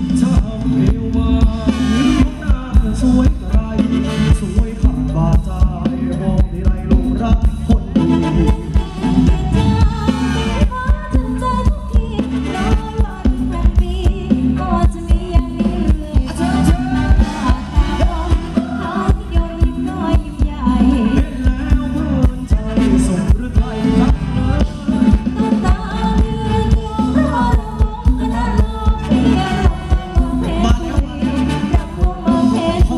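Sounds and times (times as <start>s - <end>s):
live band dance music over loudspeakers: 0.0s - 32.9s
person singing: 0.0s - 32.9s.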